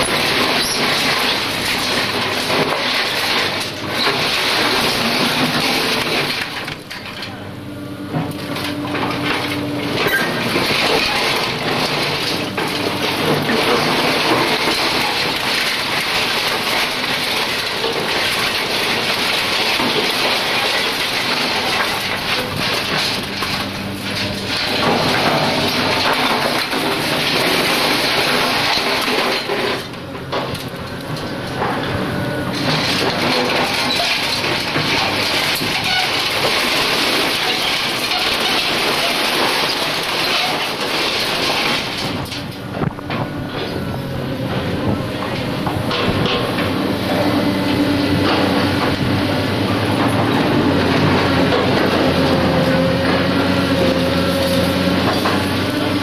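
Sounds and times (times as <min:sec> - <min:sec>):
excavator crushing rubble: 0:00.0 - 0:56.0.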